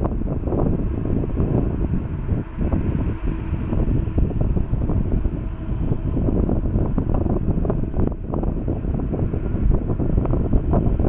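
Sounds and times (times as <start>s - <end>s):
jet engines idling hum: 0.0s - 11.0s
wind buffeting microphone: 0.0s - 11.0s.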